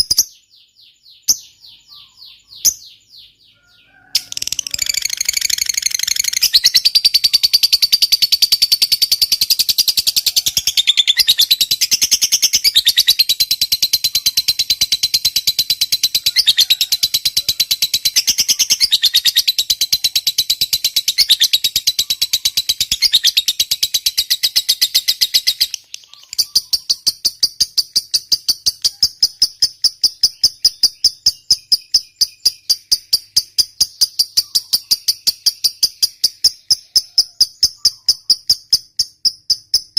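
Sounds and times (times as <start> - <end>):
lovebird pulsed chirping: 0.0 - 39.9
lovebird rattling chirps: 4.2 - 39.9.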